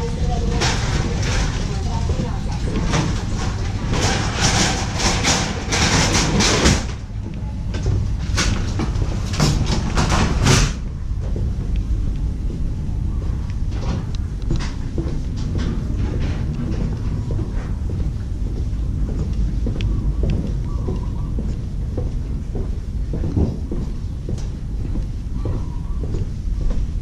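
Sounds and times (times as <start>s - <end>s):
footsteps on wooden floor: 0.0s - 27.0s
steady low rumble: 0.0s - 27.0s.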